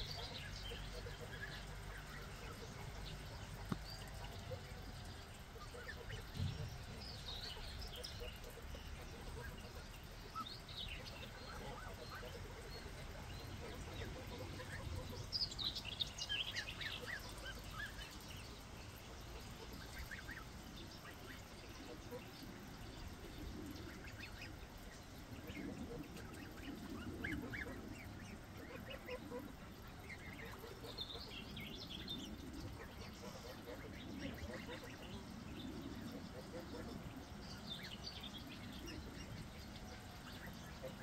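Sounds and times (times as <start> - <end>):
geese and goslings calling: 0.0 - 18.2, 18.9 - 41.0.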